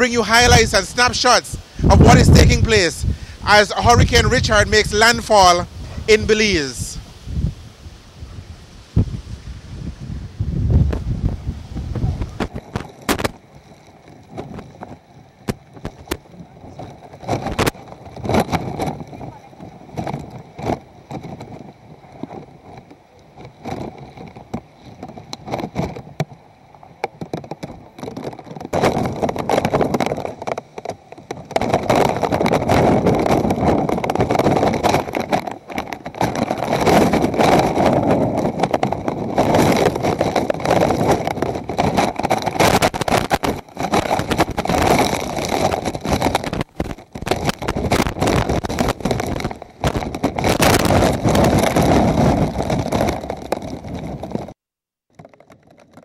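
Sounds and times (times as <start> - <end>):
wind buffeting microphone: 0.0 - 54.6.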